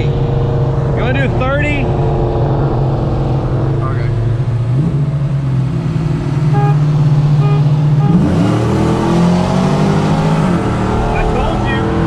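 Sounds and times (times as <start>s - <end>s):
pickup truck engine at full throttle: 0.0s - 12.0s.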